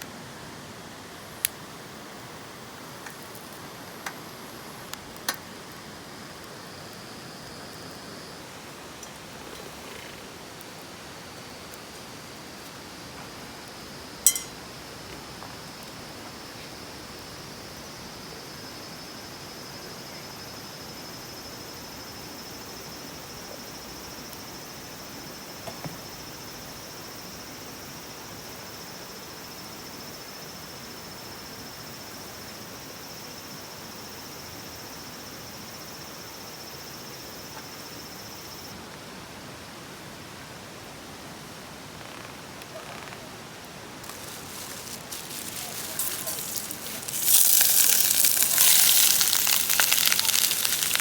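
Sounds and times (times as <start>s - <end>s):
soft background hiss: 0.0s - 51.0s
insects chirring: 1.3s - 38.8s, 42.0s - 51.0s.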